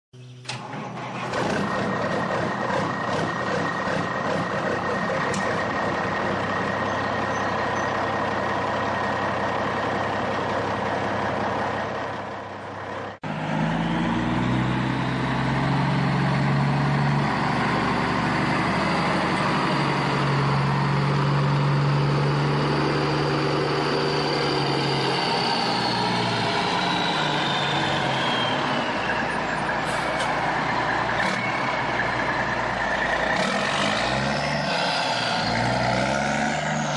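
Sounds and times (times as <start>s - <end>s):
truck engine running: 0.2s - 36.9s.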